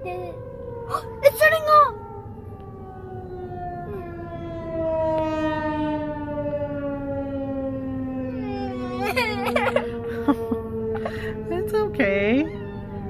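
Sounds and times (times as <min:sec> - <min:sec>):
warning siren winding down: 0:00.0 - 0:13.0.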